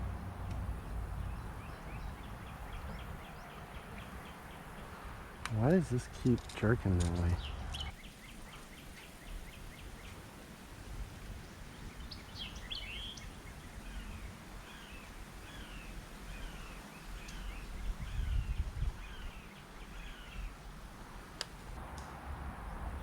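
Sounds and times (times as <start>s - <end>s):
birds chirping: 0.0s - 10.2s, 11.4s - 20.7s.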